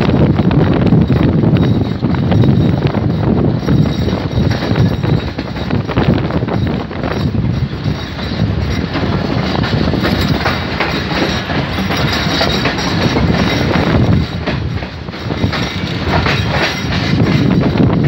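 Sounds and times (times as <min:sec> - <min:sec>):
train wheels rumbling on rail: 0:00.0 - 0:18.0
wheels clacking over rail joints: 0:00.0 - 0:18.0.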